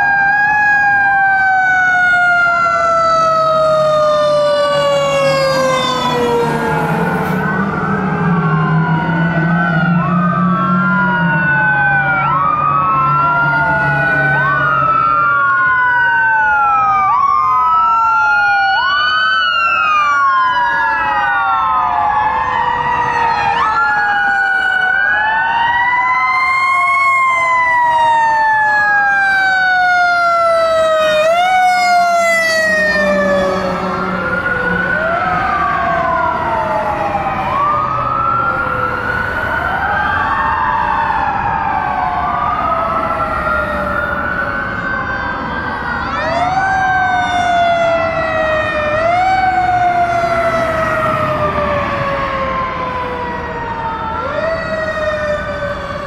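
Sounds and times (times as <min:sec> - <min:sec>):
emergency sirens wailing: 0:00.0 - 0:56.0
siren yelping sweeps: 0:00.0 - 0:56.0.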